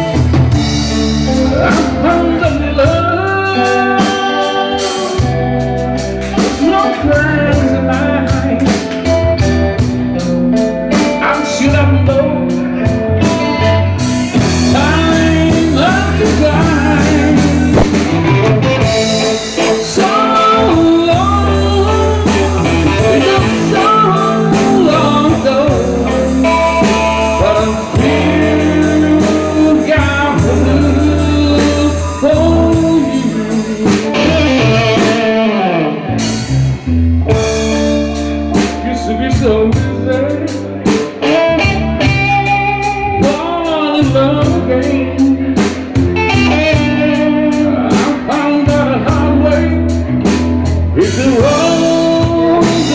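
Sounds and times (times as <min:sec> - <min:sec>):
drum kit: 0:00.0 - 0:52.9
electric guitar bending notes: 0:00.0 - 0:52.9
low bass line: 0:00.0 - 0:52.9.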